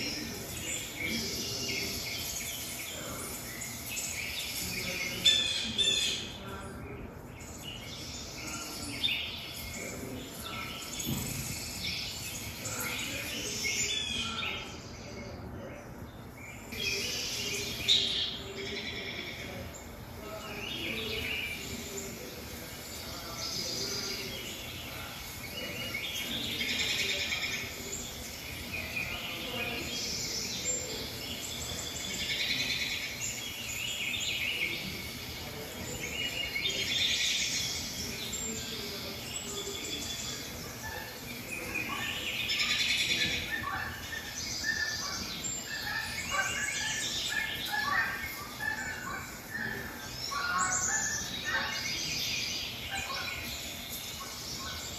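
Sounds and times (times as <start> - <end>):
birds chirping through tv speakers: 0.0 - 54.9.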